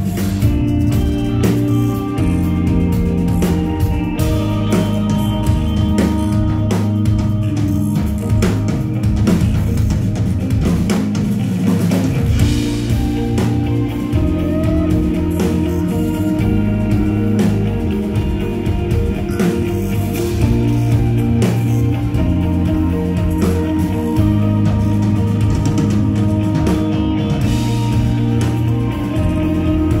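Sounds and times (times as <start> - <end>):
bass guitar: 0.0 - 30.0
drum kit with cymbal hits: 0.0 - 30.0
electric guitars: 0.0 - 30.0.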